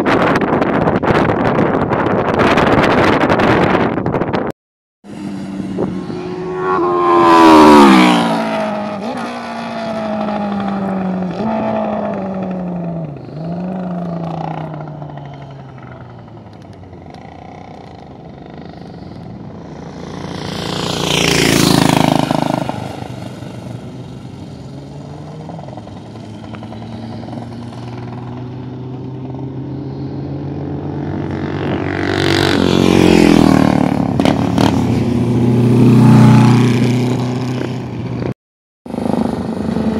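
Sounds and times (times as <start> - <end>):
racing motorcycles passing: 5.1 - 39.9.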